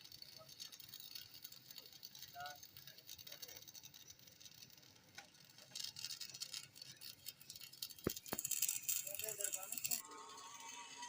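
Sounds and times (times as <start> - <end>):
welding arc crackling: 0.0 - 10.0.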